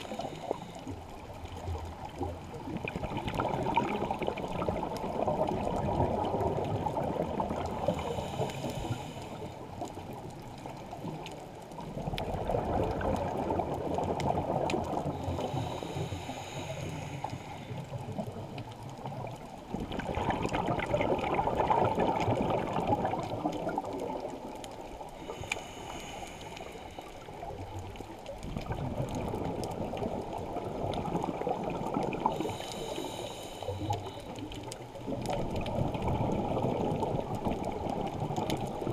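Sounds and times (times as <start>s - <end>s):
exhaled air bubbling underwater: 0.0s - 38.9s.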